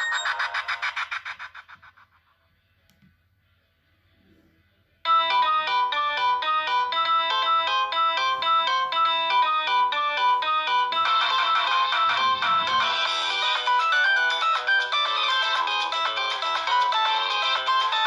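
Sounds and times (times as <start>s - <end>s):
electronic ringtone melody: 0.0s - 1.7s, 5.1s - 18.0s.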